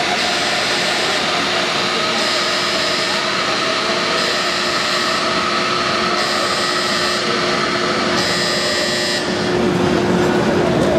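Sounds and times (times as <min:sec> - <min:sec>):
high-pitched tone: 0:00.0 - 0:09.6
elevator machinery hum and whine: 0:00.0 - 0:10.9.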